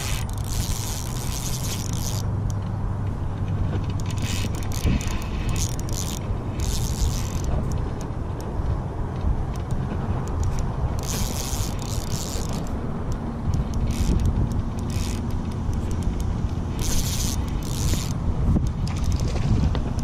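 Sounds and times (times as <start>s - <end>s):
fishing reel clicking and whirring: 0.0s - 2.6s, 3.9s - 8.5s, 9.4s - 19.4s.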